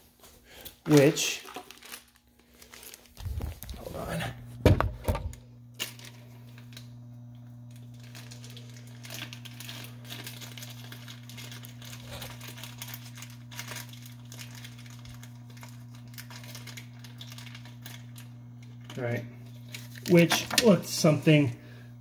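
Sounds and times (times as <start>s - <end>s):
crinkling and rustling handling noise: 0.0s - 7.0s, 7.6s - 21.5s
low electrical hum: 0.0s - 22.0s.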